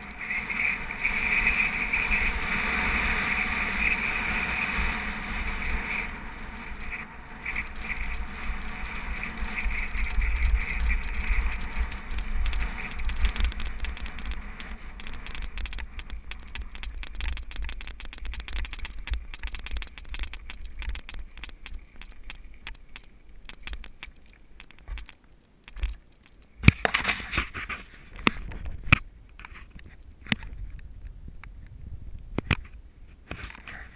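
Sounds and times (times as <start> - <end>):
bike rattling over dirt: 0.0 - 30.7
wind rumbling on microphone: 0.0 - 33.9.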